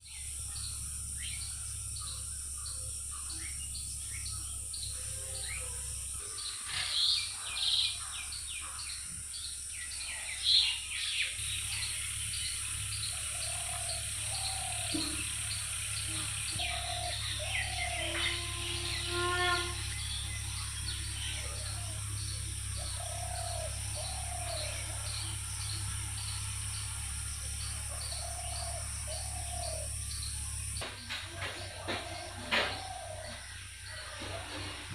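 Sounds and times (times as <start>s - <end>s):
birds chirping: 0.0s - 34.9s
low whistled bird notes: 0.0s - 34.9s
steady low hum: 0.0s - 34.9s.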